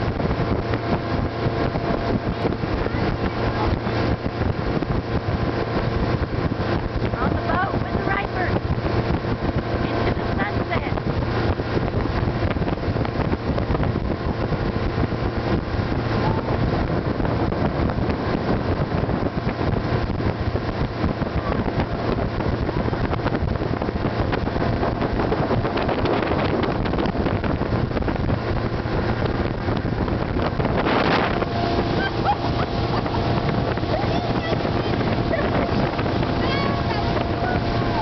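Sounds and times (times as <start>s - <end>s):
motorboat engine running: 0.0s - 38.0s
wind buffeting microphone: 0.0s - 38.0s.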